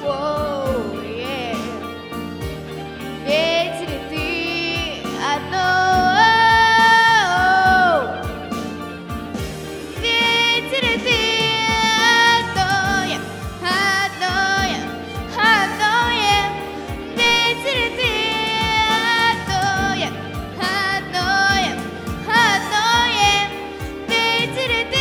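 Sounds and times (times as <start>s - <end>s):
girl singing into microphone: 0.0s - 1.9s, 3.2s - 8.4s, 9.9s - 25.0s
backing music with steady beat: 0.0s - 25.0s.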